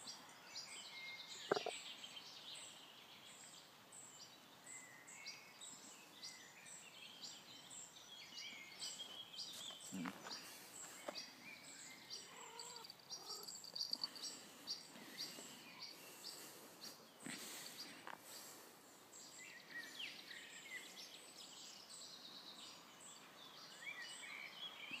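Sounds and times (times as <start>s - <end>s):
birds chirping faintly: 0.0s - 25.0s
rustle: 0.0s - 25.0s.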